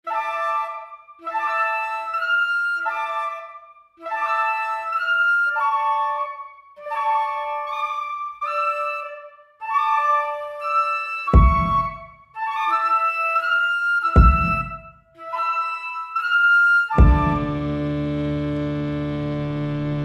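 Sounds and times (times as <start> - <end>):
solo flute melody: 0.0 - 20.0.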